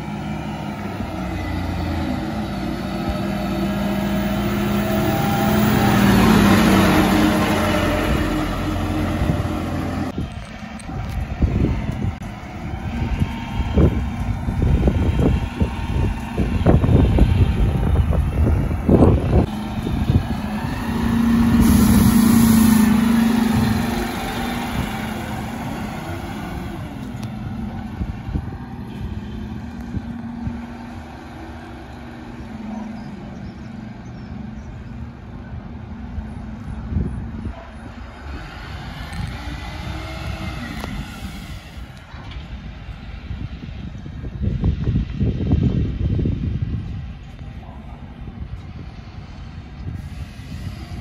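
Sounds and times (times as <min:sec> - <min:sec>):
lorry engine hum: 0:00.0 - 0:51.0.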